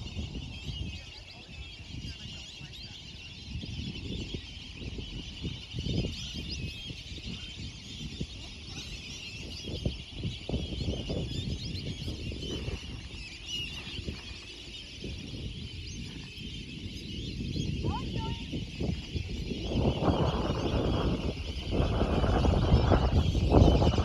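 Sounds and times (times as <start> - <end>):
chorus of birds chirping: 0.0 - 24.0.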